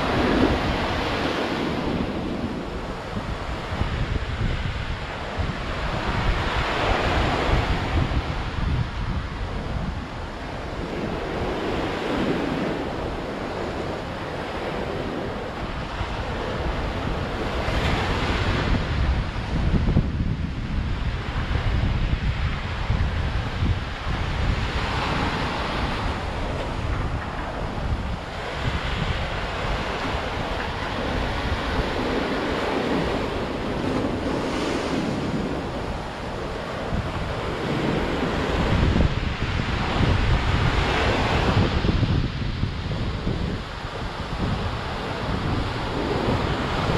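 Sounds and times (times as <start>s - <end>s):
ocean waves breaking: 0.0s - 46.9s
wind gusts on microphone: 0.0s - 46.9s.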